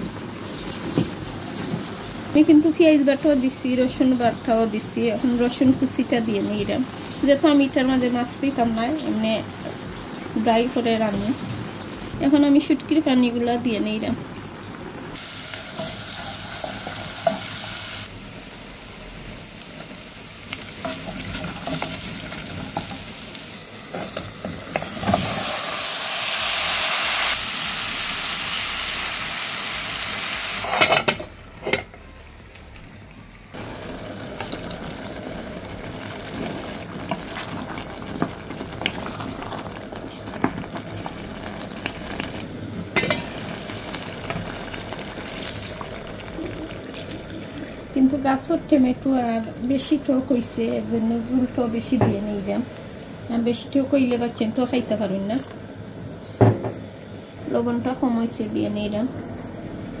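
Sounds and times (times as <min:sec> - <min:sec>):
food sizzling in a pot: 0:00.0 - 0:14.1, 0:14.7 - 0:31.0, 0:33.5 - 0:59.8.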